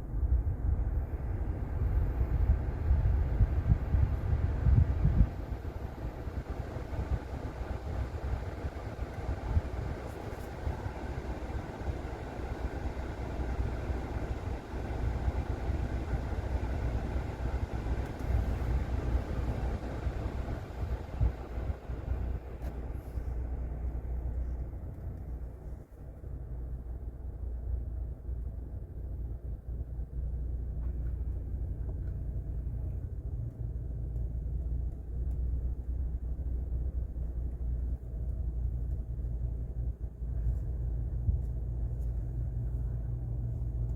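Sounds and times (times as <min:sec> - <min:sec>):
car engine rumble: 0:00.0 - 0:43.9
road noise: 0:00.0 - 0:43.9.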